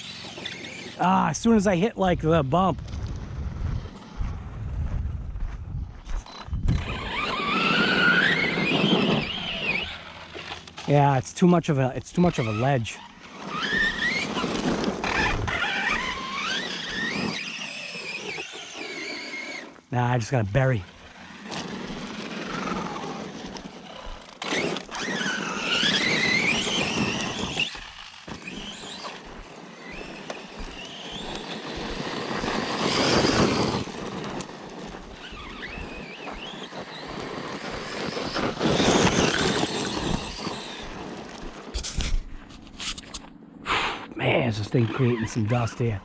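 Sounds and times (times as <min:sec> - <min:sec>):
electric motor whining: 0:00.0 - 0:01.2, 0:06.1 - 0:10.9, 0:12.1 - 0:19.9, 0:20.8 - 0:43.9
tyres spinning and throwing dirt: 0:02.2 - 0:43.3.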